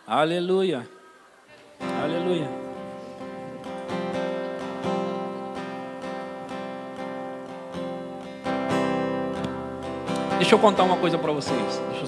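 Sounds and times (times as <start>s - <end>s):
acoustic guitar chords: 1.7s - 12.0s.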